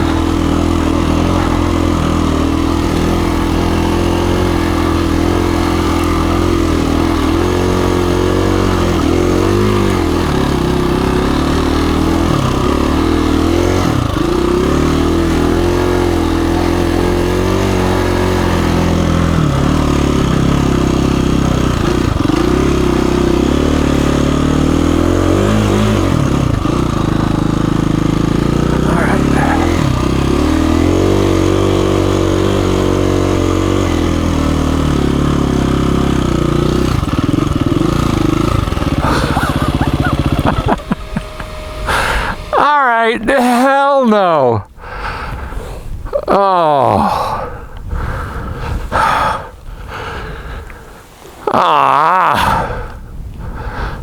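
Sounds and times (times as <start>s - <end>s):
dirt bike engine revving: 0.0s - 45.5s, 46.3s - 52.9s.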